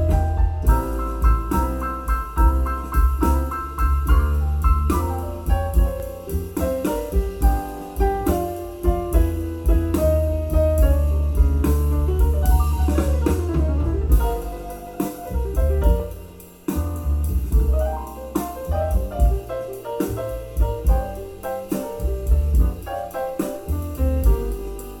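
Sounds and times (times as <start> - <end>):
instrumental music with piano and bass: 0.0 - 25.0.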